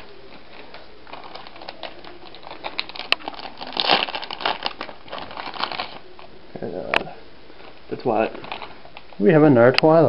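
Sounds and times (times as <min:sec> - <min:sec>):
foil bag crinkling: 0:00.0 - 0:06.3, 0:07.6 - 0:09.4.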